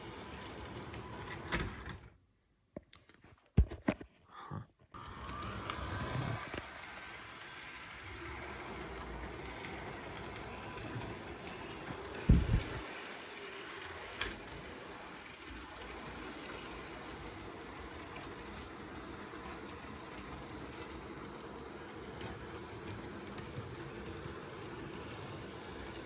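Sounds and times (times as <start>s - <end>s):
model train rolling hum: 0.0s - 1.9s, 5.0s - 26.0s.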